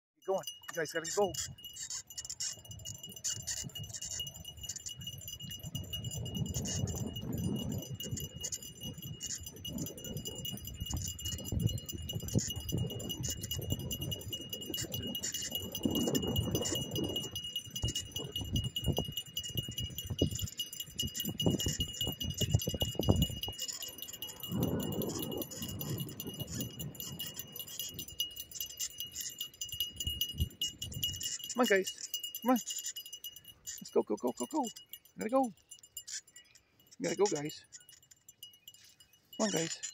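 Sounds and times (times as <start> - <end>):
dog tags and leash clips jingling: 0.2 - 39.9.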